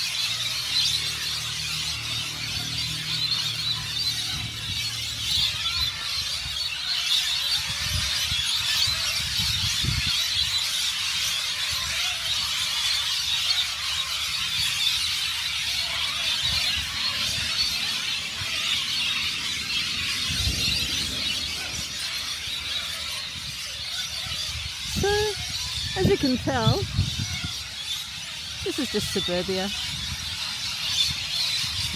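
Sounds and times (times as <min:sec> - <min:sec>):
flock of birds screeching: 0:00.0 - 0:31.9.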